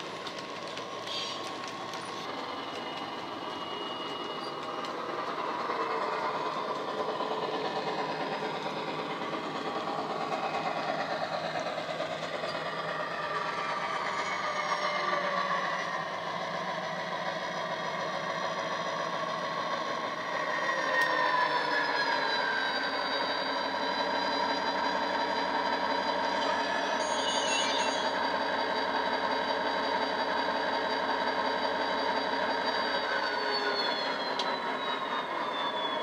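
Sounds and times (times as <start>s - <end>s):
model locomotive diesel engine sound: 0.0s - 36.0s.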